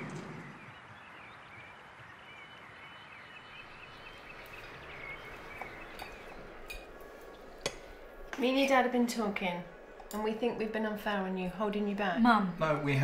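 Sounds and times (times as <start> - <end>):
birds chirping: 0.0 - 13.0
outdoor ambience hiss: 0.0 - 13.0.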